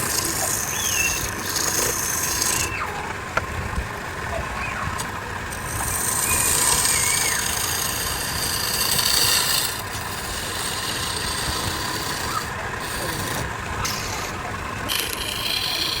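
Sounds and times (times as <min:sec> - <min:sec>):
tool rasping against spinning wood: 0:00.0 - 0:03.3, 0:05.0 - 0:16.0
lathe motor hum: 0:00.0 - 0:16.0.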